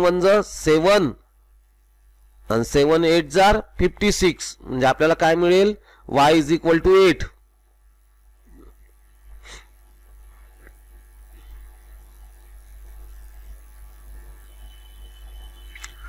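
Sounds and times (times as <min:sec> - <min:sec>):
low electrical hum with buzz: 0:00.0 - 0:16.0.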